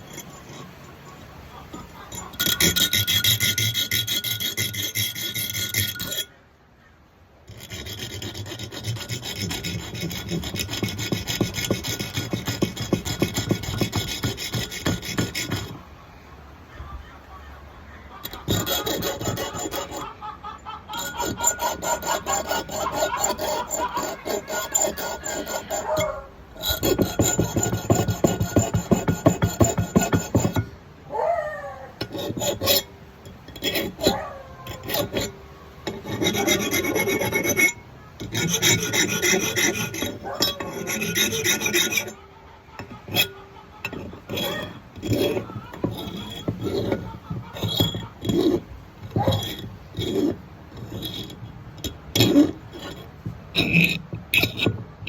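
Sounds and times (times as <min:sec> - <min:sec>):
file scraping steel blade: 0:00.0 - 0:06.4, 0:07.5 - 0:15.9, 0:18.2 - 0:20.2, 0:20.9 - 0:30.8, 0:32.0 - 0:55.0.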